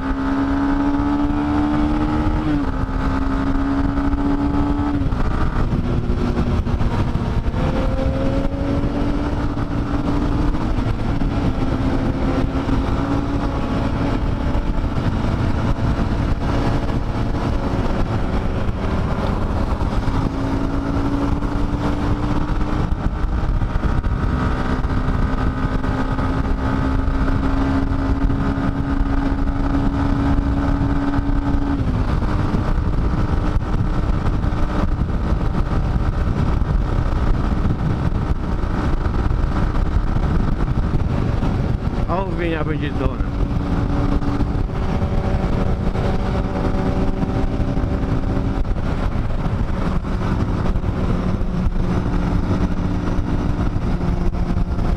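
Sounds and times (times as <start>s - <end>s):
motorcycle engine running: 0.0s - 54.9s
wind rush: 0.0s - 54.9s.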